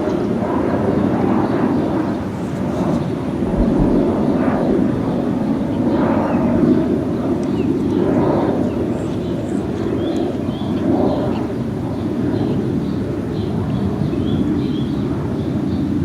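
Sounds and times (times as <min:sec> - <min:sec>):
jet engine rumble: 0:00.0 - 0:16.0.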